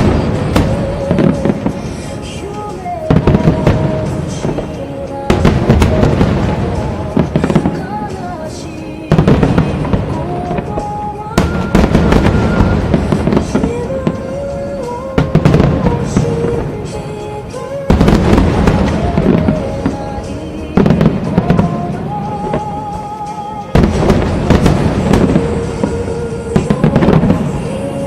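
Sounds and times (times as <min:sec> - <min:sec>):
music with slow held melody: 0:00.0 - 0:28.0.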